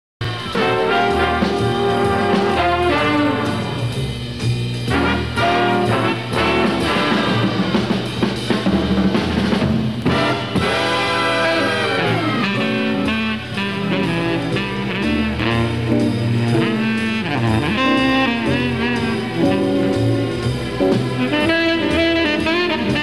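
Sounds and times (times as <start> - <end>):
brass instruments: 0.2 - 23.0
drum kit: 0.2 - 23.0.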